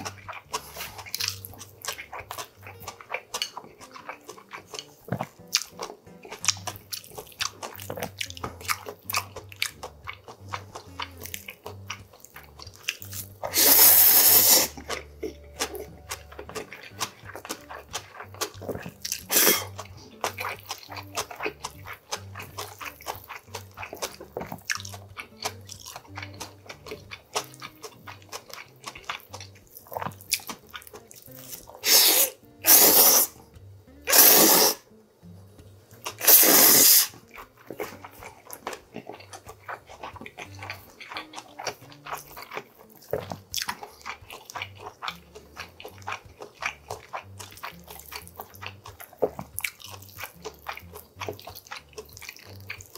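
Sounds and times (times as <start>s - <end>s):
noodle slurps: 0.0s - 5.5s, 12.4s - 15.4s, 16.6s - 33.4s, 34.1s - 34.9s, 36.1s - 52.9s
wet chewing: 0.0s - 52.9s.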